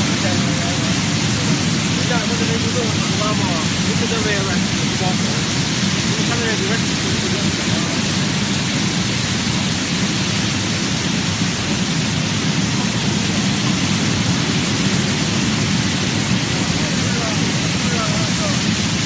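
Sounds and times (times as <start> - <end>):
nozzles spraying water: 0.0 - 19.0
water churning and bubbling: 0.0 - 19.0.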